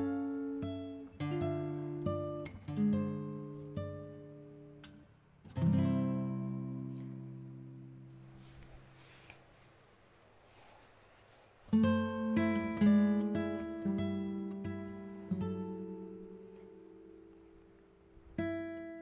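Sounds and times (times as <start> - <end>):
acoustic guitar chords: 0.0 - 9.1, 11.7 - 19.0.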